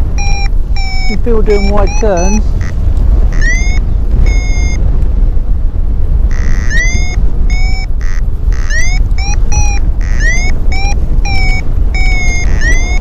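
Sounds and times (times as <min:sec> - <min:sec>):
variometer beeping: 0:00.0 - 0:05.0, 0:06.2 - 0:13.0
wind rushing on microphone: 0:00.0 - 0:13.0.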